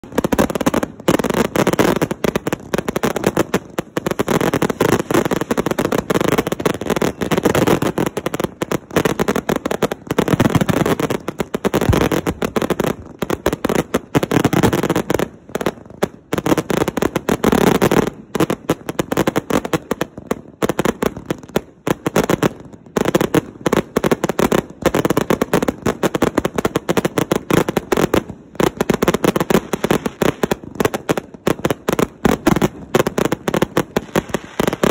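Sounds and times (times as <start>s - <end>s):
fireworks barrage: 0.0s - 34.9s.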